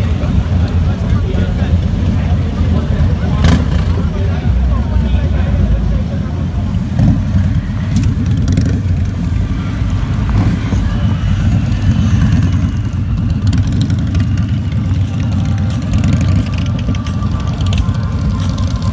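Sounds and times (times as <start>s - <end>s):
motorcycle engine rumbling: 0.0s - 18.9s.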